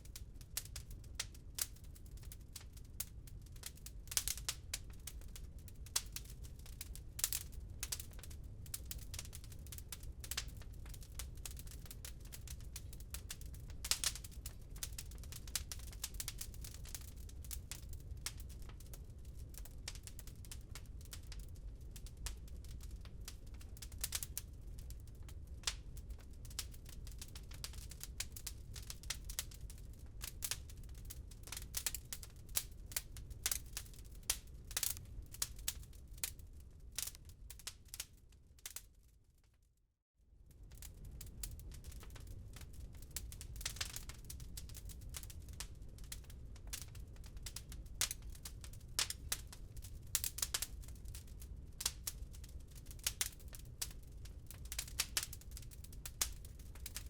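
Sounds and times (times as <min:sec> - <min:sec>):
low fire rumble: 0:00.0 - 0:39.4, 0:40.3 - 0:57.0
wood fire pops and snaps: 0:03.5 - 0:18.9, 0:19.5 - 0:36.4, 0:37.0 - 0:38.9, 0:40.8 - 0:49.5, 0:50.1 - 0:51.2, 0:51.8 - 0:57.0.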